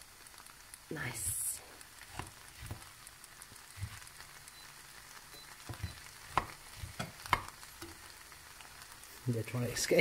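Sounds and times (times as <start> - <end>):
faint sizzle: 0.0 - 10.0
spatula stirring lentils in pot: 0.0 - 10.0.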